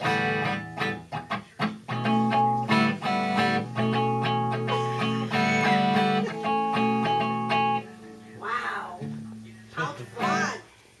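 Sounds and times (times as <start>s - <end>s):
guitar strumming chords: 0.0s - 8.4s, 10.1s - 10.6s.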